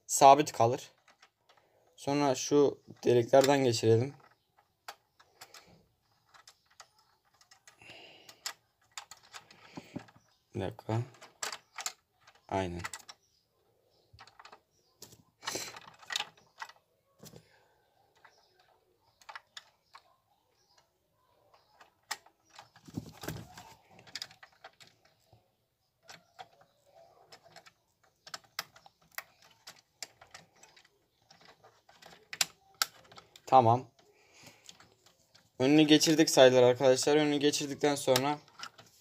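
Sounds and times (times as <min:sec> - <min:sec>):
model car parts clicking: 0:00.4 - 0:13.4, 0:14.1 - 0:17.5, 0:18.1 - 0:39.0.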